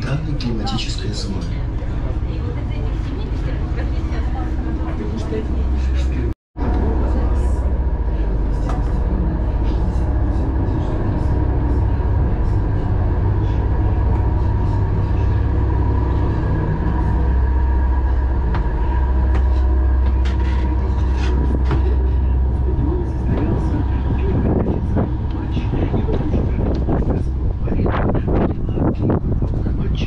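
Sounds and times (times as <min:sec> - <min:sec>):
boat diesel engine drone: 0:00.0 - 0:30.0
faint steady whine: 0:00.0 - 0:30.0.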